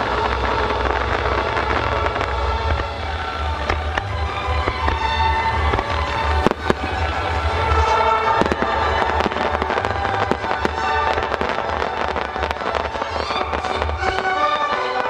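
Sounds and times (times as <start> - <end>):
fireworks banging and crackling: 0.0 - 15.0
music playing: 0.0 - 15.0.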